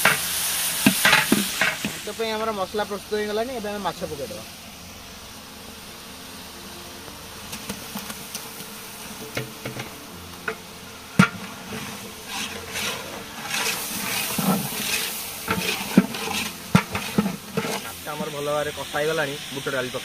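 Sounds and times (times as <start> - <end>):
fish sizzling in a pan: 0.0 - 20.0.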